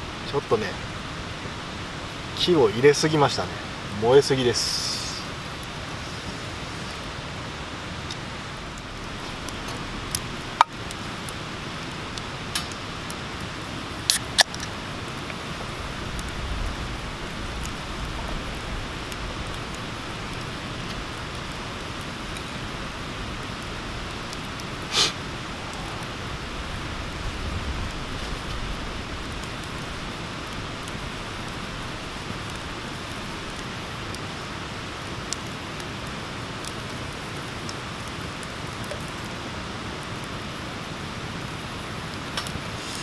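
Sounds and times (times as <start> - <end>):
fire crackling and popping: 0.0 - 43.0
flames rushing: 0.0 - 43.0.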